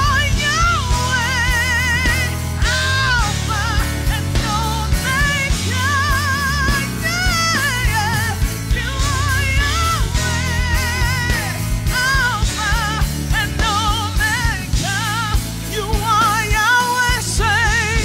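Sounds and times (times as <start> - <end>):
bass guitar: 0.0 - 18.0
drum kit beat: 0.0 - 18.0
electric guitar: 0.0 - 18.0
keyboard: 0.0 - 18.0
people singing: 0.0 - 18.0.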